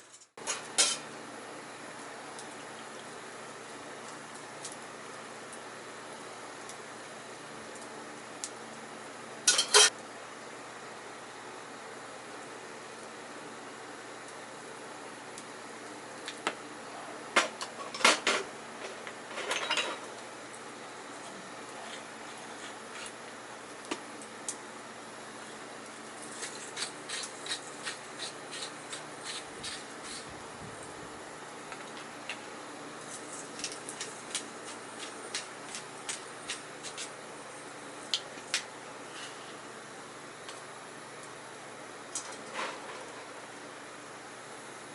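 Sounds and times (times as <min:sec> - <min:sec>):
low hiss of food cooking: 0:00.0 - 0:44.9.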